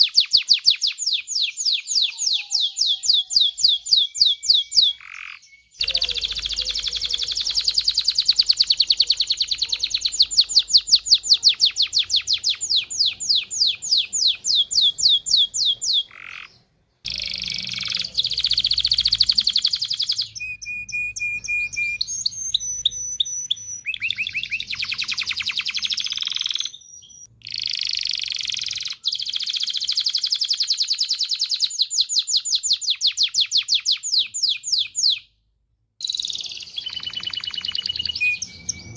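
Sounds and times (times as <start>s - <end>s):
canary singing trills: 0.0s - 35.3s, 36.0s - 38.9s.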